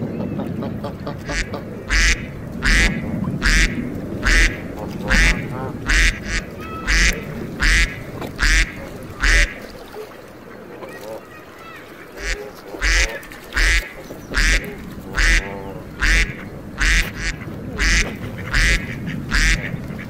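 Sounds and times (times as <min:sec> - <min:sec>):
low background noise: 0:00.0 - 0:20.0
duck quacking: 0:00.2 - 0:10.0, 0:11.8 - 0:20.0.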